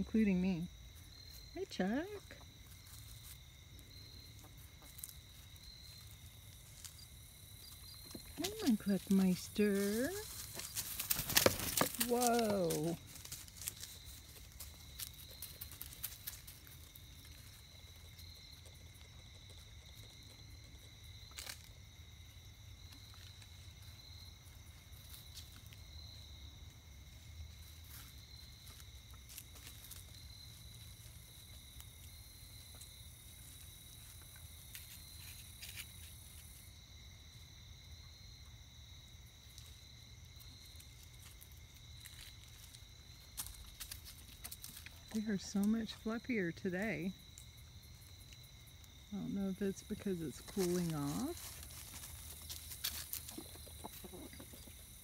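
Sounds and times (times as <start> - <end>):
insect chorus trilling: 0.0 - 55.0.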